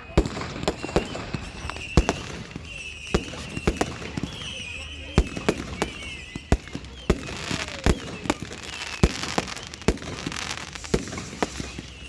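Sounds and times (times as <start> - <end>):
fireworks bangs: 0.0 - 12.0
fireworks crackle: 0.0 - 12.0
fireworks whistle: 0.0 - 12.0.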